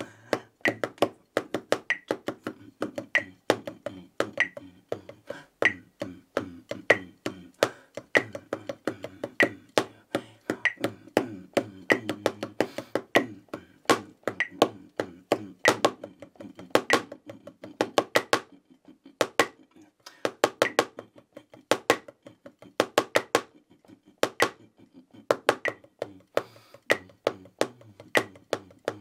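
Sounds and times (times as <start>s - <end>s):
drumsticks tapping practice pad: 0.0s - 29.0s.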